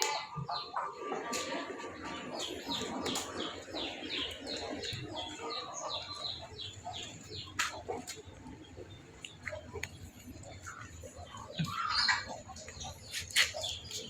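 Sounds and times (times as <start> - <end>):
high chirping calls: 2.1 - 14.0.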